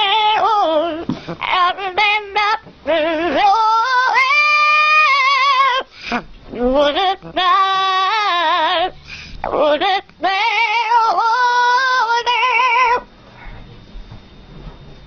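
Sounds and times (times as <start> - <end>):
parrot singing: 0.0 - 5.9, 6.5 - 13.0.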